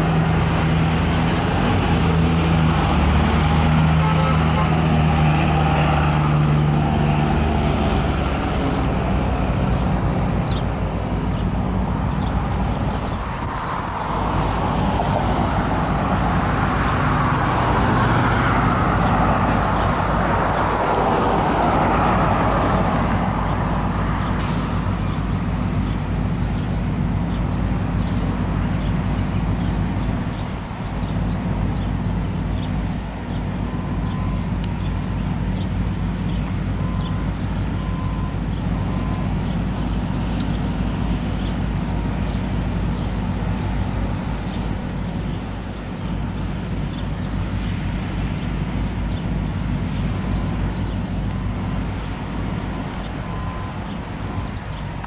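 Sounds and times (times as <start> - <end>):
low engine hum: 0.0 - 55.0
vehicles passing: 0.0 - 55.0.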